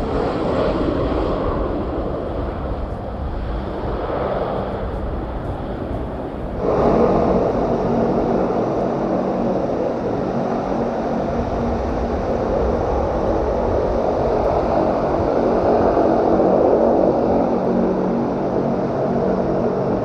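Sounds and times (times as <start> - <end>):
aircraft engines running: 0.0 - 20.0.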